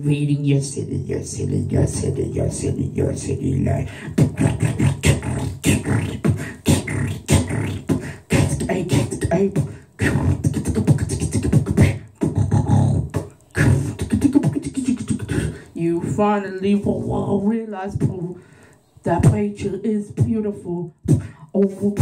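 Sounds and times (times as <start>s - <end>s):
man beatboxing: 0.0s - 18.4s, 19.1s - 22.0s.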